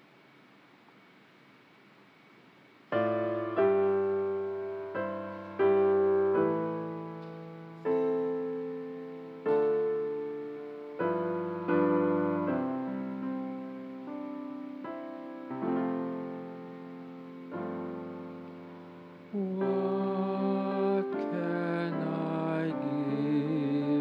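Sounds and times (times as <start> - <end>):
piano keyboard playing slow chords: 2.9 - 24.0.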